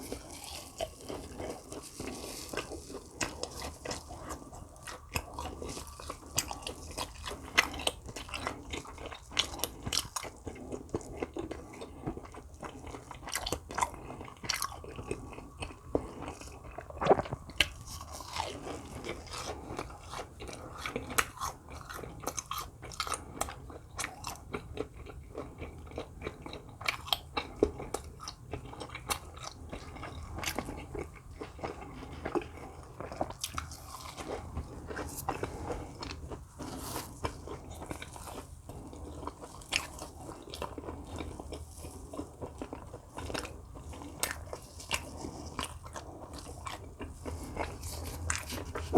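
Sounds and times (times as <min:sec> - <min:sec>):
chewing crisp fried snacks: 0:00.0 - 0:48.9.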